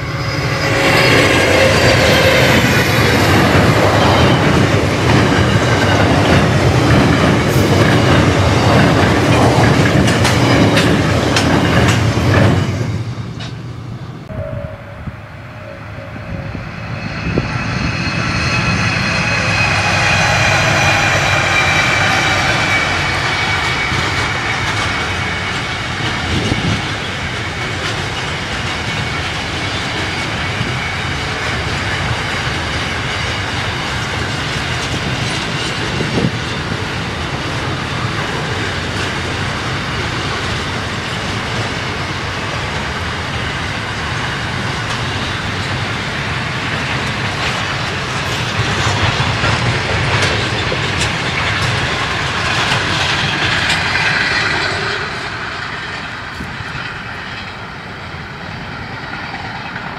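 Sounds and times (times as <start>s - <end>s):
diesel locomotive engine: 0.0s - 59.9s
train wheels clicking over rail joints: 0.6s - 13.8s, 18.3s - 59.9s.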